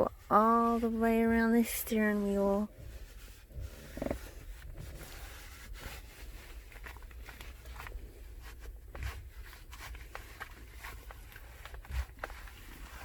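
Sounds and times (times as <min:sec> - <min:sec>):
wipe rubbing steering wheel: 0:00.1 - 0:13.0.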